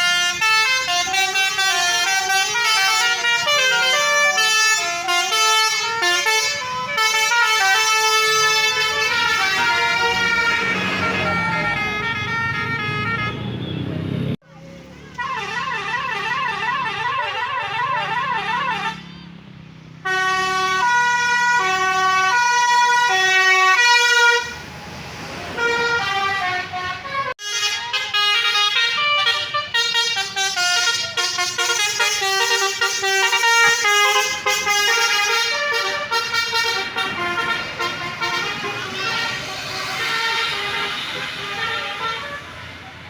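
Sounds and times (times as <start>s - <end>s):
multi-tone musical air horns: 0.0s - 13.7s, 15.1s - 19.2s, 20.0s - 24.6s, 25.6s - 42.8s.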